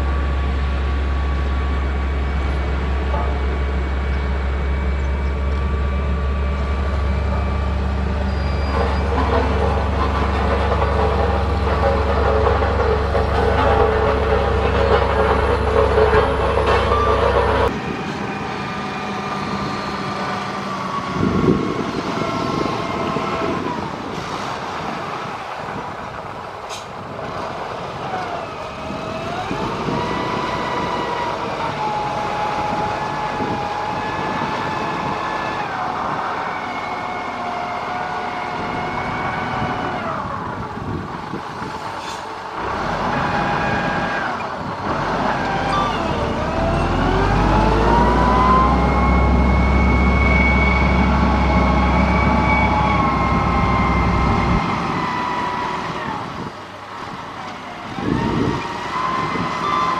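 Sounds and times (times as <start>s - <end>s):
heavy construction machine engine: 0.0s - 59.9s.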